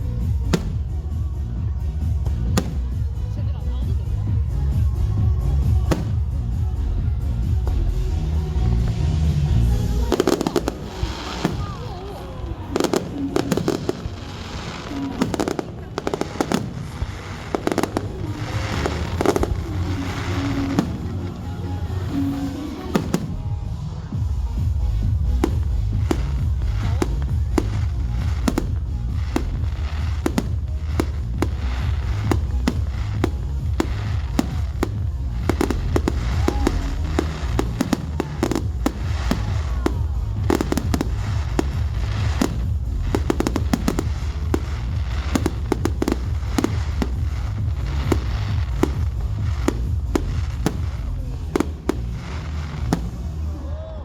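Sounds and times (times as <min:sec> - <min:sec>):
steady low rumble: 0:00.0 - 0:53.6
fireworks bangs and crackles: 0:00.0 - 0:54.0.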